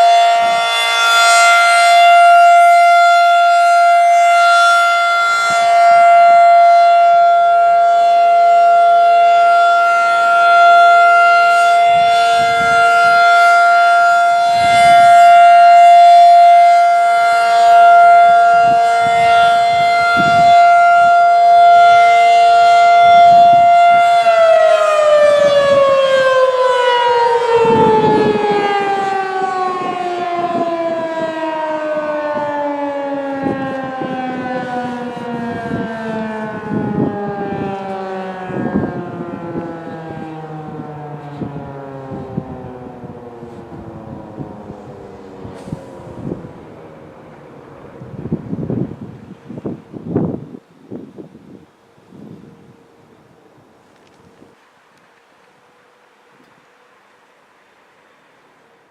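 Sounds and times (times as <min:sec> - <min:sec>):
warning siren alert tone: 0:00.0 - 0:50.5.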